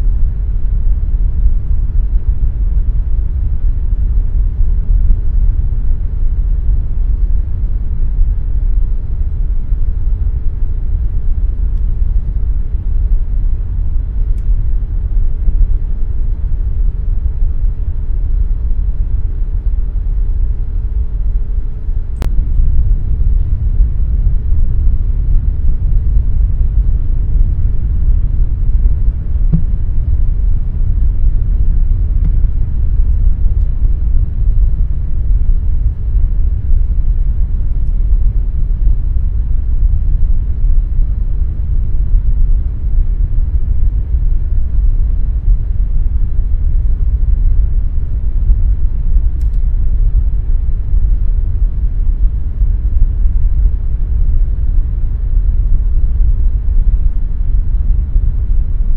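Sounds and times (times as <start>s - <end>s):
air conditioner running: 0.0s - 58.9s.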